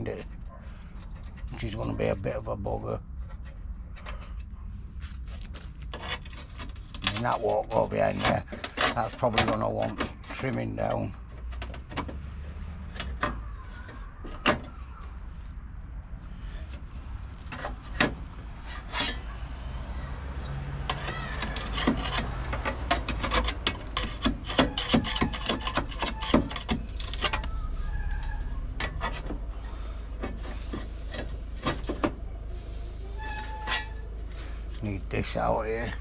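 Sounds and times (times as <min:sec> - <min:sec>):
metal scraping and knocking: 0:00.0 - 0:14.8, 0:16.6 - 0:36.0.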